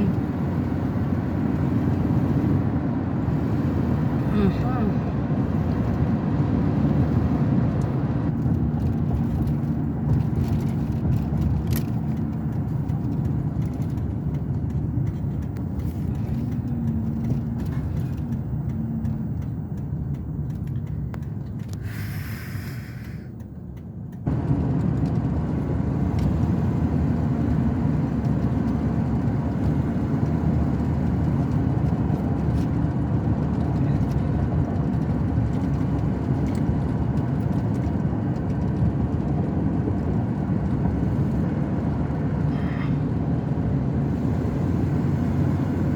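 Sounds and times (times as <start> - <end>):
truck engine and road rumble: 0.0 - 45.9.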